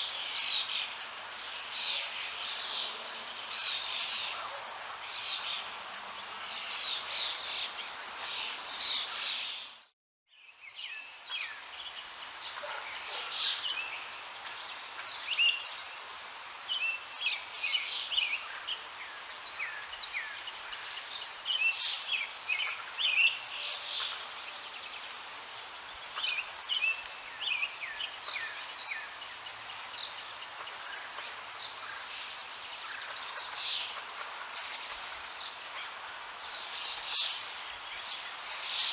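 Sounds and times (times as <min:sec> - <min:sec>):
steady background hiss: 0:00.0 - 0:09.8, 0:10.6 - 0:38.9
songbirds singing and chirping: 0:00.0 - 0:38.9.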